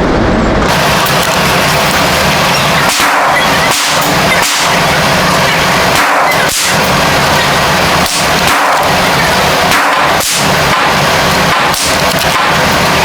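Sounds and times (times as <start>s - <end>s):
steady loud noise: 0.0s - 13.0s
gunshots: 0.7s - 13.0s.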